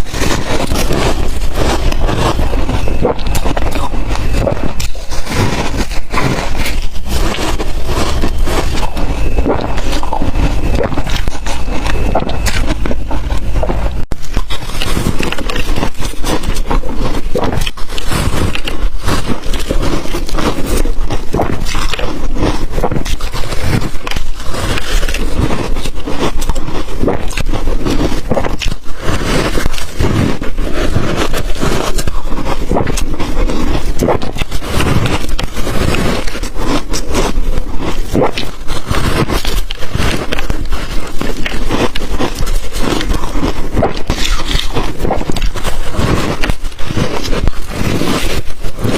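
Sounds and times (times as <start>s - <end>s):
biting and crunching ice: 0.0s - 48.9s.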